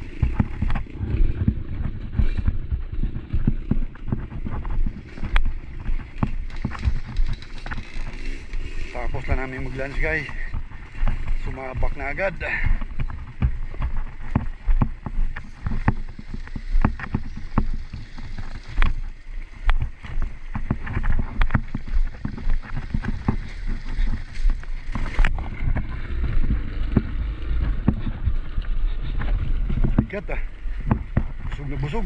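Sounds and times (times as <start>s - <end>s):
motorcycle engine rumble: 0.0s - 32.0s
sharp knocks and rattles: 0.0s - 32.0s
wind on microphone: 0.0s - 32.0s.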